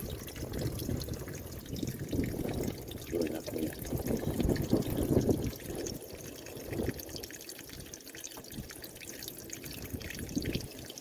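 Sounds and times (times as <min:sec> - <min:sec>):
coolant draining and splashing: 0:00.0 - 0:11.0.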